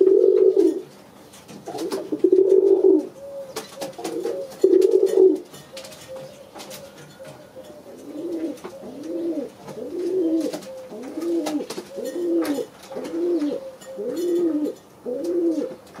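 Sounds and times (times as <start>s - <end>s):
pigeon cooing: 0.0s - 0.9s, 1.7s - 15.9s.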